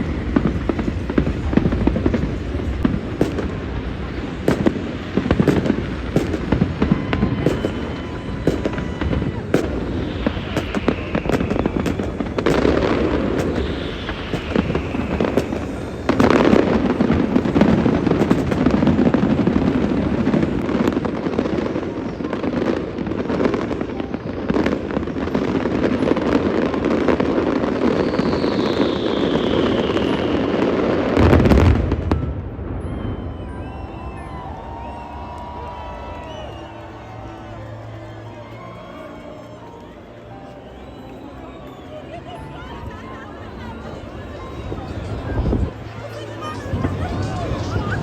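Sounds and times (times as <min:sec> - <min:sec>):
falling firework whistles: 0:00.0 - 0:21.8, 0:24.6 - 0:43.2
big firework burst: 0:00.0 - 0:41.1
fireworks bangs and crackling: 0:00.0 - 0:48.0.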